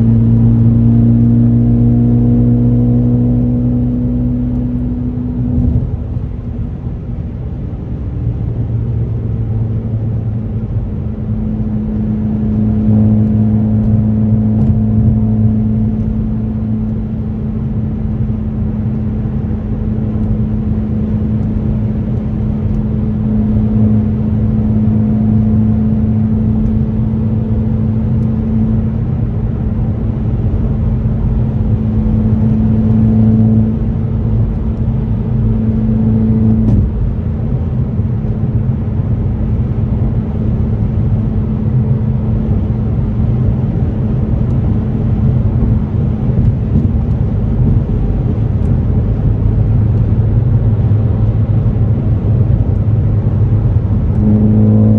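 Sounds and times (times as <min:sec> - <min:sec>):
car engine droning: 0:00.0 - 0:54.9.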